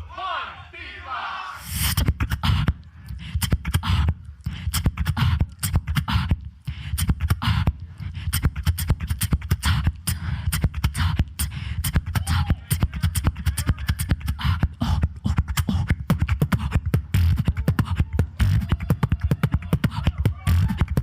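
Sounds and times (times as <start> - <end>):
person beatboxing: 1.6 - 21.0.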